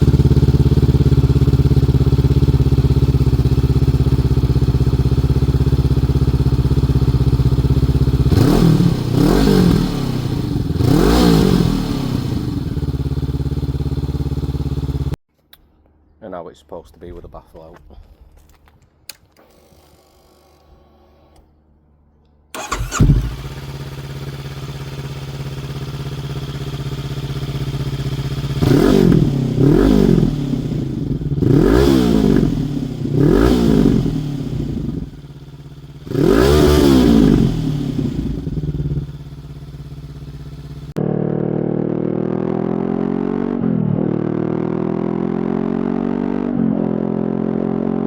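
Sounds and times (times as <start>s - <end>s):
motorcycle engine revving: 0.0s - 15.2s, 22.6s - 48.0s.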